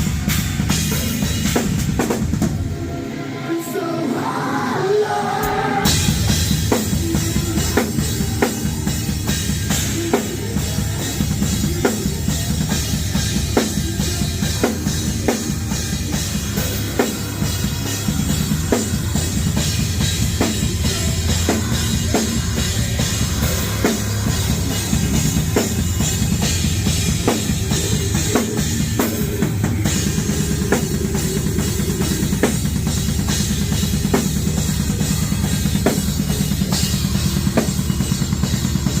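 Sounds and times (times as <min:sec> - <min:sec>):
rapid bass drum: 0:00.0 - 0:02.7, 0:05.8 - 0:39.0.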